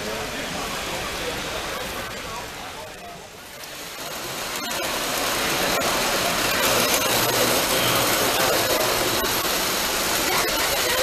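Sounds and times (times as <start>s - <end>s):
crowded hall din: 0.0s - 11.0s
model trains rumbling on track: 0.0s - 11.0s.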